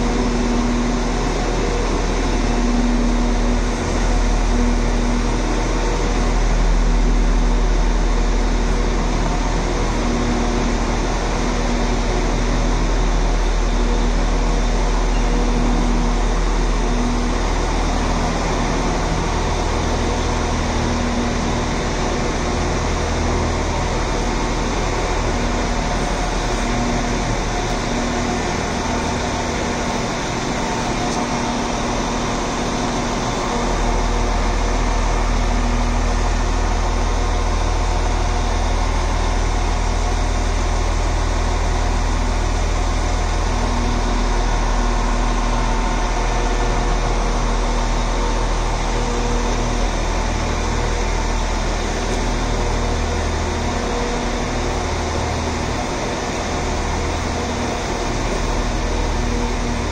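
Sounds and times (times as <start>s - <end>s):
train engine droning: 0.0s - 59.9s
ventilation hum: 0.0s - 59.9s.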